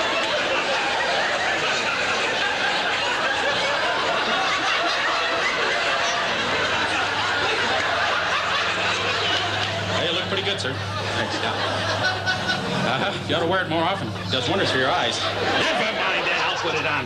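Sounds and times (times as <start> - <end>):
studio audience laughing: 0.0 - 17.0.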